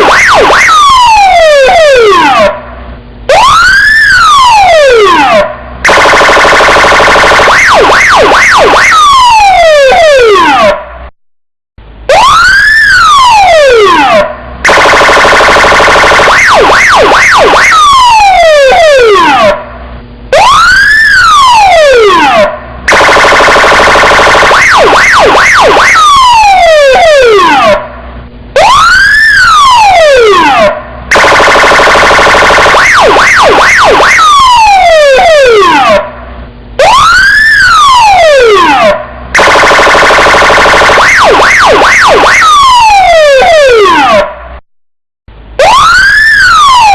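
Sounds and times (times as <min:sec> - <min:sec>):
police car siren cycling tones: 0:00.0 - 0:02.6, 0:03.3 - 0:10.8, 0:12.1 - 0:19.6, 0:20.3 - 0:28.0, 0:28.6 - 0:36.2, 0:36.8 - 0:44.4, 0:45.6 - 0:46.9.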